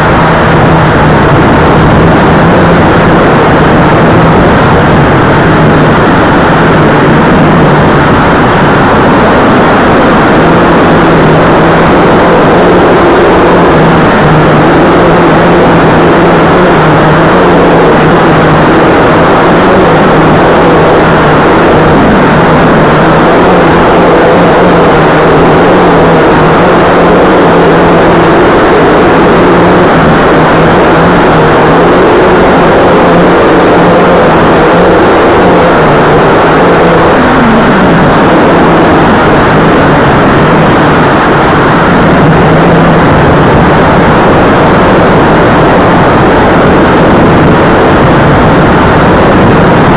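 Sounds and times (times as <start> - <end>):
quadcopter propellers whirring: 0.0 - 49.9.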